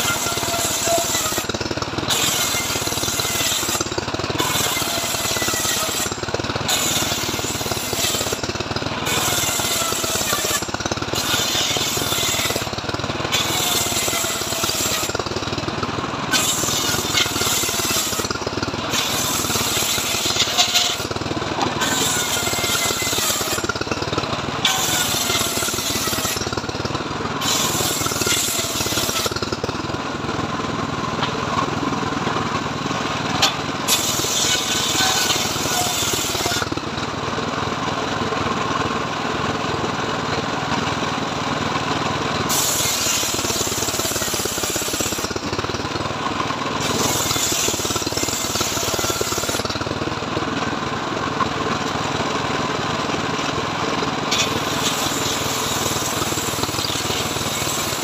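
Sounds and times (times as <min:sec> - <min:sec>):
circular saw cutting wood: 0:00.0 - 0:31.7, 0:32.4 - 0:37.4, 0:42.1 - 0:50.7, 0:52.9 - 0:58.0
engine running: 0:00.0 - 0:58.0.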